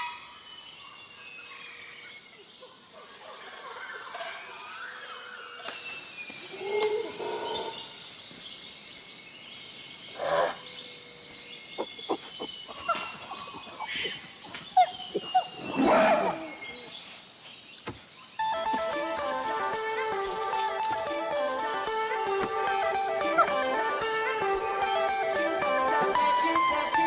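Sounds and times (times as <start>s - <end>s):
wild animal and bird calls: 0.0s - 27.0s.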